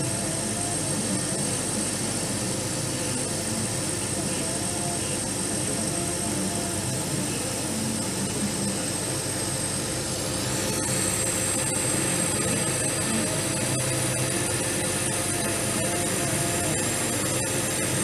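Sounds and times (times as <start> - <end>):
machine noise with high whine: 0.0 - 18.0.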